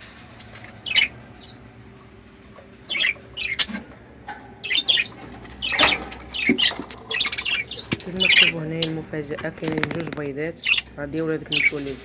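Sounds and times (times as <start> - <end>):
birds squawking: 0.5 - 12.0.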